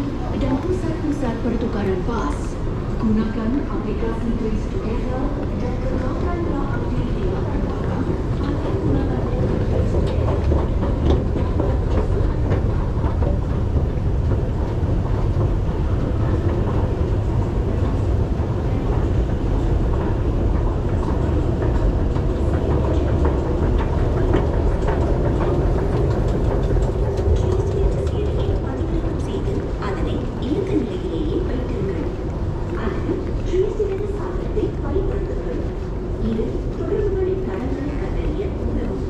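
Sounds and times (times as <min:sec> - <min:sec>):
escalator rumbling: 0:00.0 - 0:39.0
escalator steps clicking: 0:04.2 - 0:39.0.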